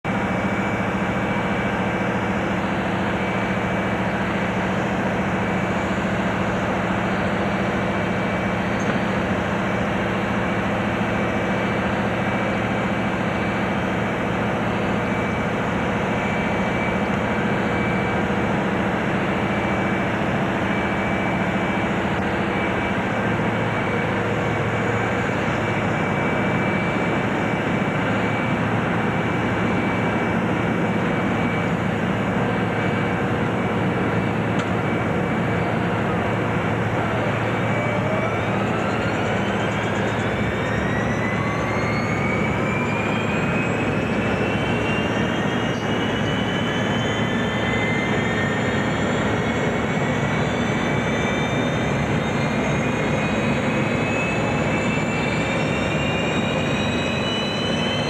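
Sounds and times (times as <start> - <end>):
auxiliary power unit whine: 0.0 - 58.0.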